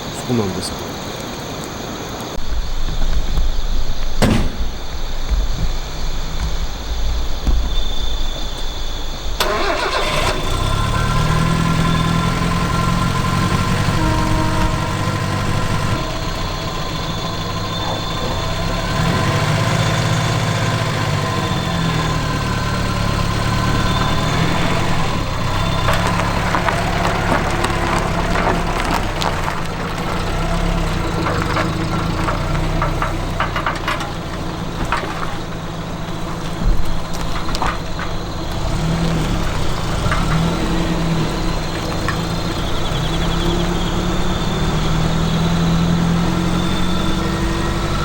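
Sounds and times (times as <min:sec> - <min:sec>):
engine idling: 0:02.4 - 0:48.0.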